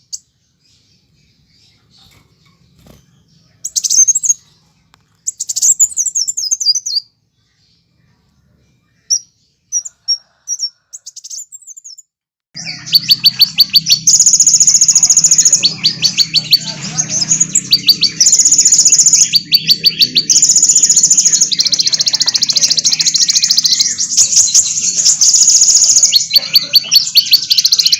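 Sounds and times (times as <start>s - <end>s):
birds chirping and trilling: 0.0s - 27.9s.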